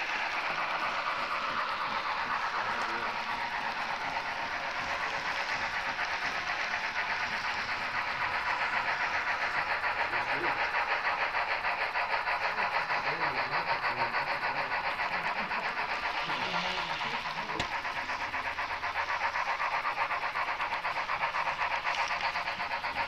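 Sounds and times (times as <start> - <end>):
model train wheels clattering: 0.0 - 23.0.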